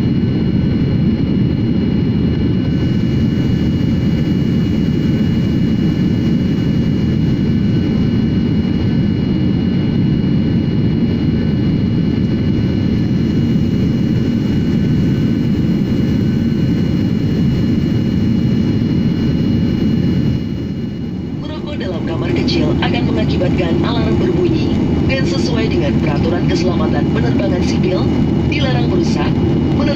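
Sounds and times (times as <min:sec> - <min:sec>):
faint steady whine: 0:00.0 - 0:29.9
jet engine rumble: 0:00.0 - 0:29.9.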